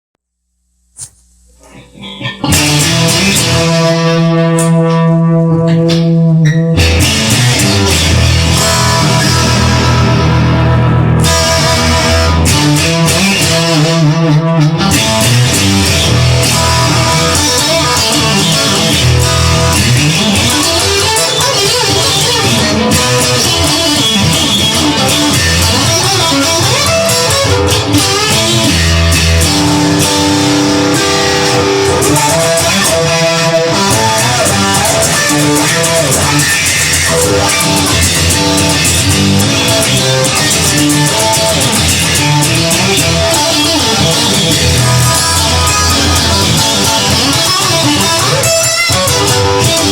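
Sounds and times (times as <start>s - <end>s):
bass guitar: 0.7s - 49.9s
rock guitar: 1.0s - 49.9s.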